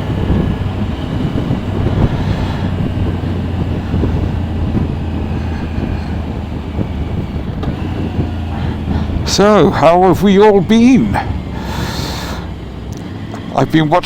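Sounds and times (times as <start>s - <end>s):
wind noise: 0.0s - 12.7s
motorcycle engine: 0.0s - 14.0s
road noise: 0.0s - 14.0s.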